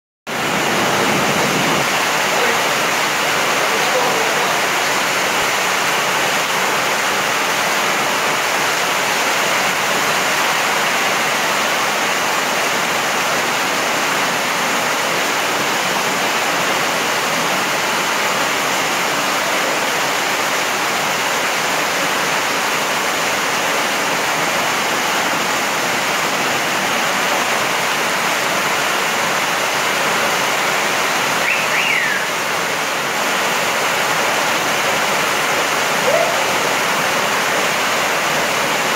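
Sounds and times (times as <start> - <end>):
heavy rain pouring: 0.3 - 38.9.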